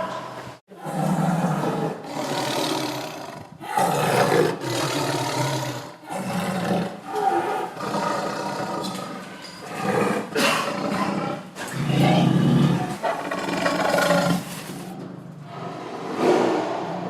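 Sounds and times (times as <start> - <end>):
tiger roaring: 0.7 - 17.0.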